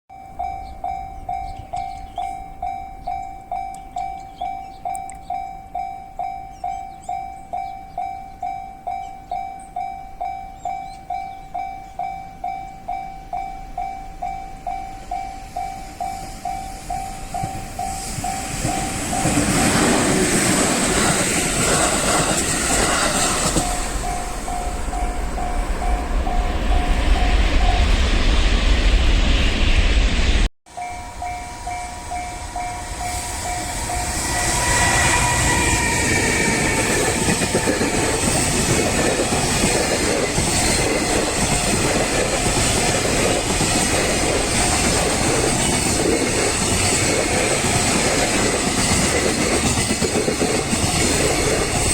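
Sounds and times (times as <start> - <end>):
level crossing warning bell dinging: 0.1 - 22.2, 22.8 - 28.2, 30.7 - 51.9
deep rumble of train: 0.1 - 51.9
train passing: 0.1 - 51.9.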